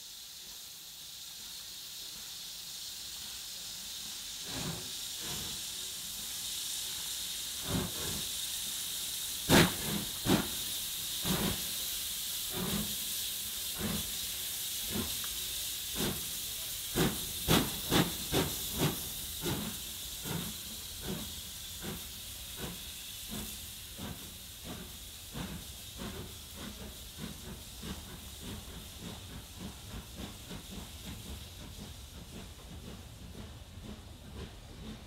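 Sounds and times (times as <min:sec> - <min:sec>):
steam hissing: 0:00.0 - 0:35.0
steam locomotive chuffing: 0:00.0 - 0:35.0.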